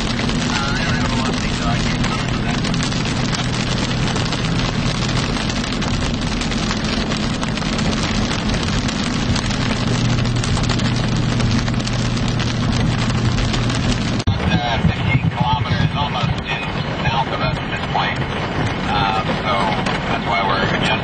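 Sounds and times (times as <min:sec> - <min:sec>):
engine and road hum: 0:00.0 - 0:21.0
heavy rain on vehicle: 0:00.0 - 0:21.0.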